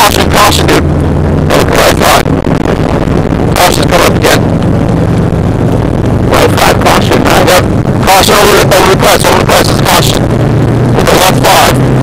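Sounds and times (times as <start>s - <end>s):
car engine drone: 0.0s - 12.0s
loud bursts of noise: 0.0s - 12.0s.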